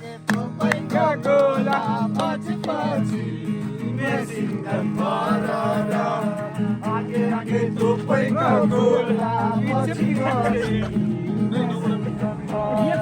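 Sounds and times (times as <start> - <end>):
guitar accompaniment: 0.0 - 13.0
person singing: 0.0 - 13.0.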